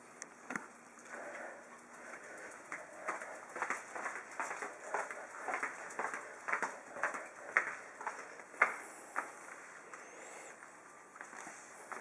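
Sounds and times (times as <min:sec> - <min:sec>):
footsteps on tile floor: 0:01.2 - 0:12.0.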